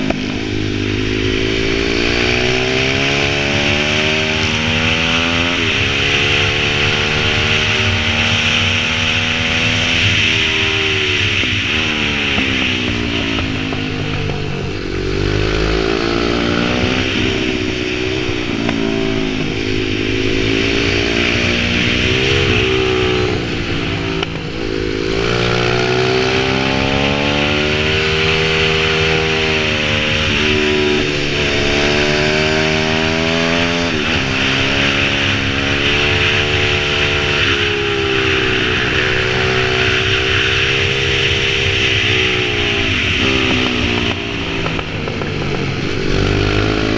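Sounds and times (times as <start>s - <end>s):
motorbike engine revving: 0.0s - 46.9s.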